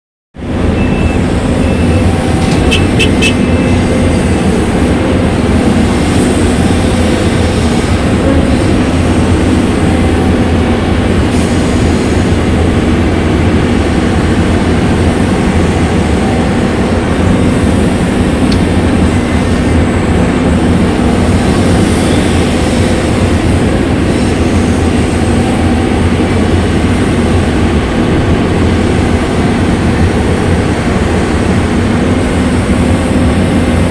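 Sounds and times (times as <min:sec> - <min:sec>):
excavator diesel engine running: 0:00.4 - 0:33.9.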